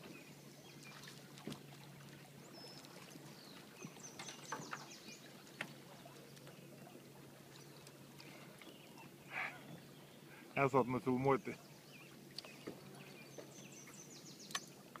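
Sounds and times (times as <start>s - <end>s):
water lapping against hull: 0.0s - 15.0s
birds chirping: 2.0s - 15.0s.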